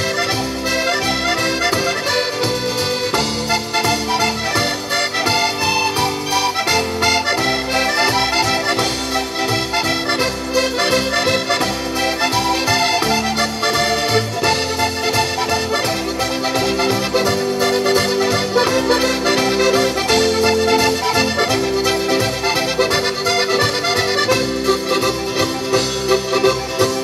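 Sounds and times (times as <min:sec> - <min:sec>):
accordion duet playing folk music: 0:00.0 - 0:27.0.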